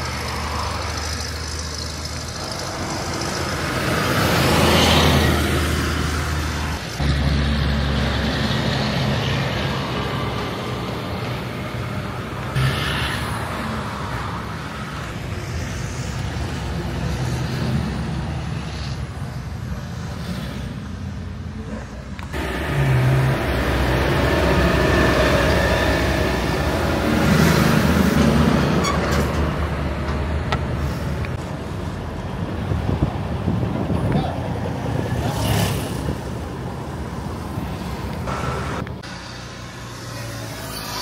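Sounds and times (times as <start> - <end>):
engine and tyre noise: 0.0 - 41.0
trucks driving past: 0.0 - 41.0.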